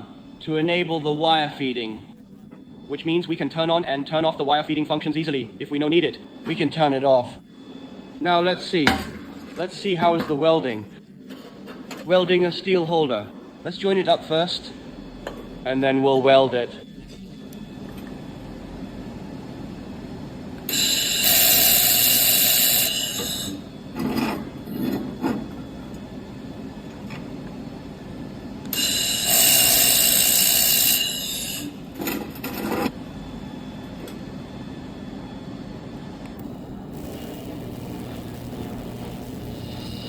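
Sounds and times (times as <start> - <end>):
laser welder hissing whine: 0.0 - 11.2, 12.1 - 40.0
steady hum: 0.0 - 20.7, 21.8 - 40.0.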